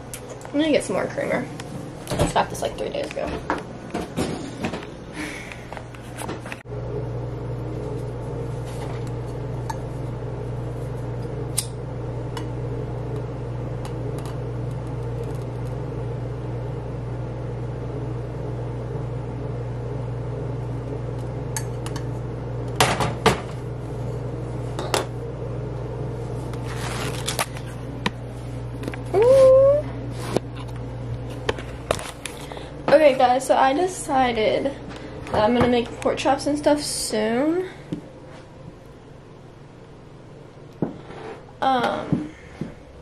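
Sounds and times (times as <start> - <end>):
appliance electrical hum: 0.0 - 43.0.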